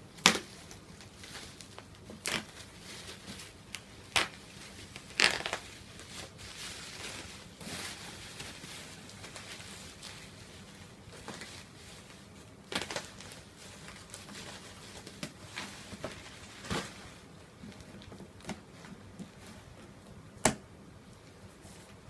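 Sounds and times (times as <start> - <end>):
packaging rustling: 0.4 - 19.7.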